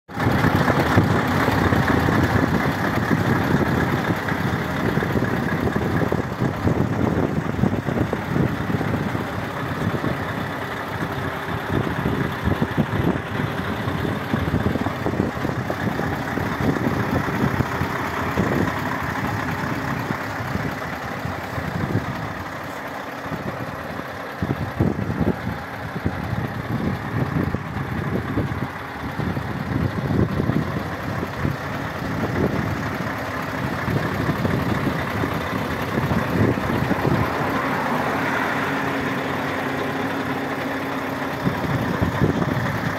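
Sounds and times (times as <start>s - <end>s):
diesel engine idling: 0.1s - 42.9s.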